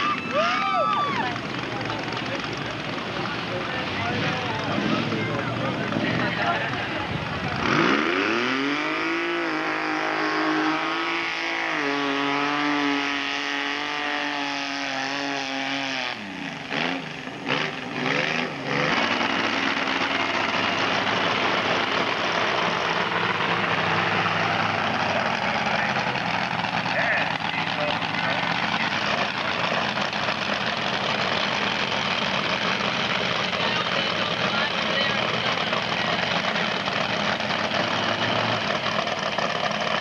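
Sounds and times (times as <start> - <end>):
engine revving high: 3.5 - 30.4, 31.8 - 40.0.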